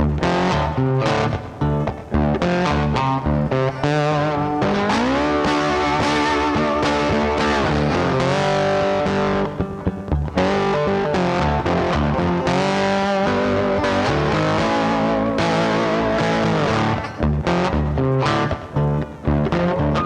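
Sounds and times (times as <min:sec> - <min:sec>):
rock music with distorted guitar: 0:00.0 - 0:20.0.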